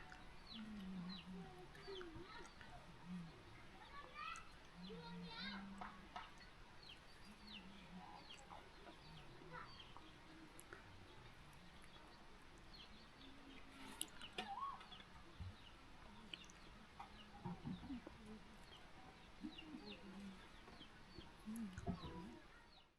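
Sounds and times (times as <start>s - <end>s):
chickens clucking: 0.0s - 22.6s
small birds chirping: 0.0s - 22.9s.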